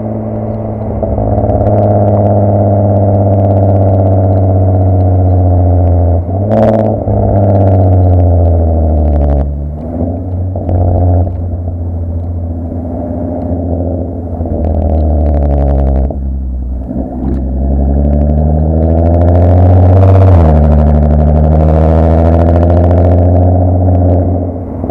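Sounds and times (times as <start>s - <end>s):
car engine droning under load: 0.0s - 24.9s
sharp exhaust crack: 0.0s - 24.9s.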